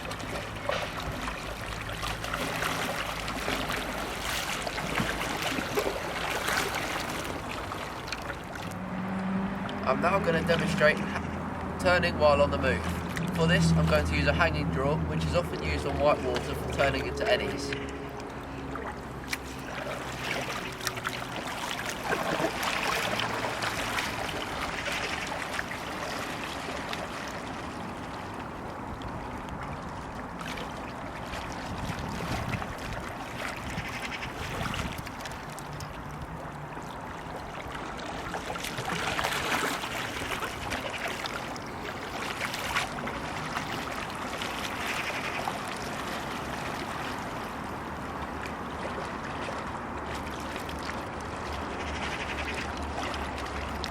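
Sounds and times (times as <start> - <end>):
paddle splashing in water: 0.0 - 53.9.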